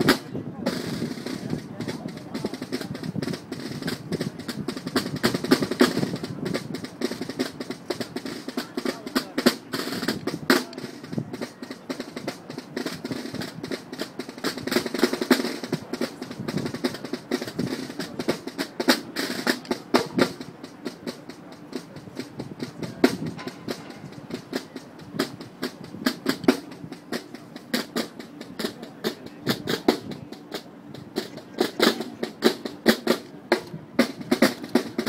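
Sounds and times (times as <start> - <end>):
snare drums playing rolls: 0.0 - 35.0.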